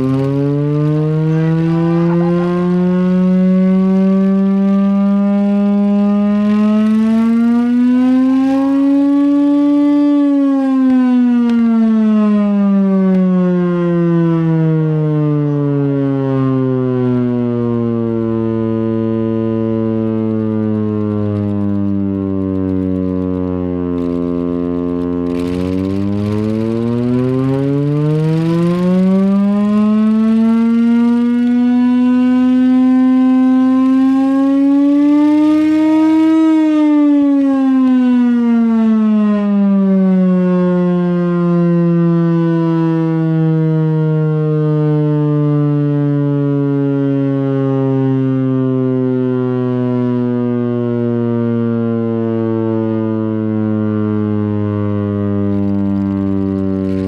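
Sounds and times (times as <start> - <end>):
air raid siren winding: 0.0 - 57.0.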